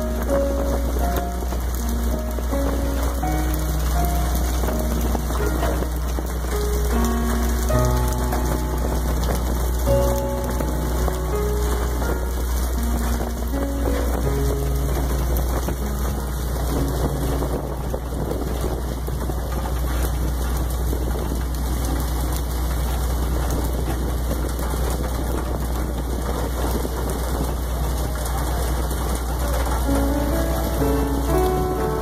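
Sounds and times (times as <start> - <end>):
boat engine droning: 0.0 - 32.0
water spray splashing: 0.0 - 32.0.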